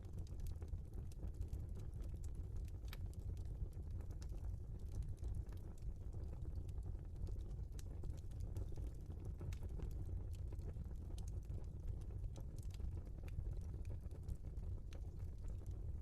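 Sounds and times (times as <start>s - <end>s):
log fire crackling and popping: 0.0s - 16.0s
low fire rumble: 0.0s - 16.0s.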